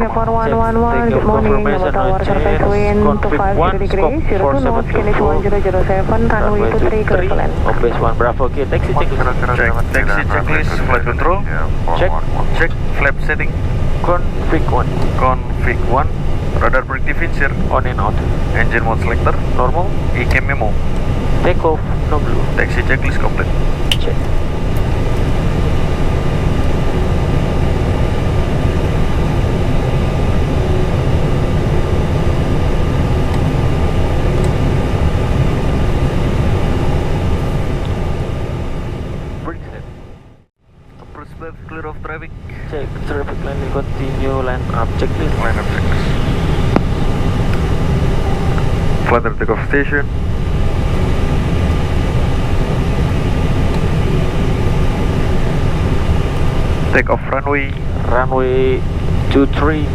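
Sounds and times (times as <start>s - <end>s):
aircraft cockpit engine rumble: 0.0s - 59.9s
thin steady whine: 0.0s - 59.9s.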